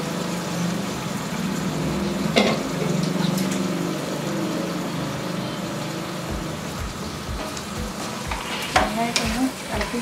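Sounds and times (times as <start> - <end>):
chicken sizzling in a hot pan: 0.0 - 10.0.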